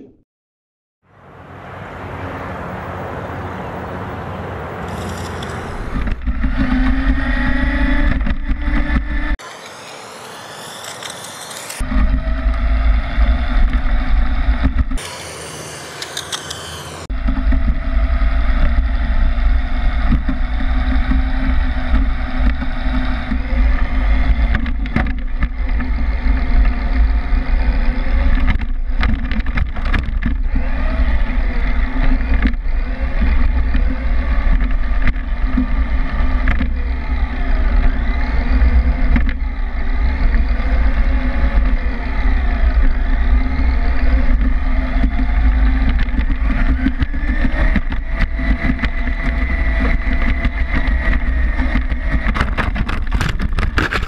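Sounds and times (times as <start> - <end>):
road vibration and wind rumble: 1.0 - 10.2, 11.0 - 54.0
toy car motor whine: 4.9 - 54.0.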